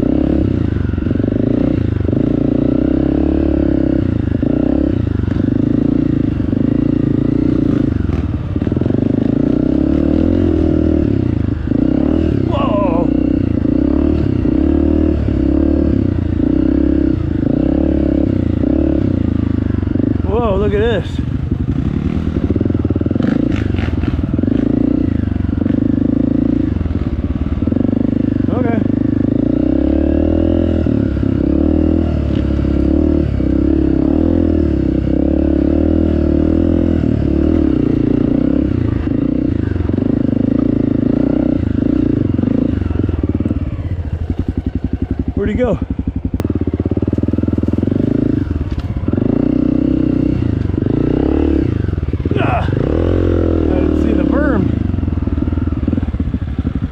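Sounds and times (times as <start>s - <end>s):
trail bike engine under throttle: 0.0s - 56.9s.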